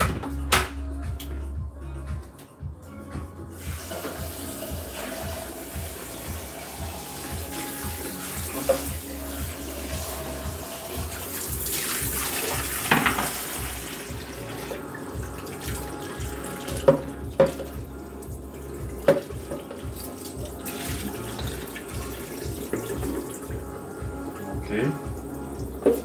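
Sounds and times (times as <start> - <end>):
tap water running into basin: 3.6 - 26.0.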